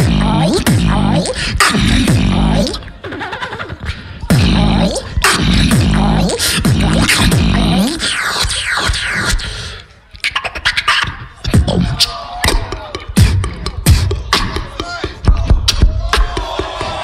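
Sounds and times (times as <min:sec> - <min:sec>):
beatboxing into a microphone: 0:00.0 - 0:17.0.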